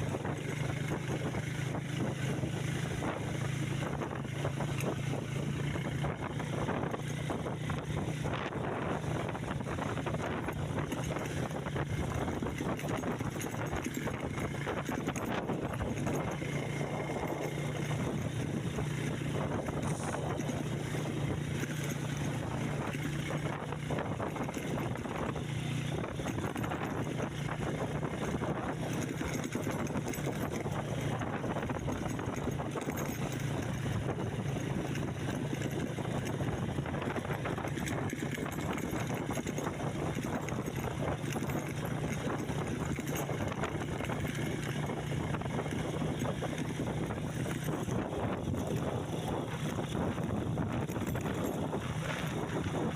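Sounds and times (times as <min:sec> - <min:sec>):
road rushing noise: 0:00.0 - 0:52.9
vehicle engine running steadily: 0:00.0 - 0:52.9.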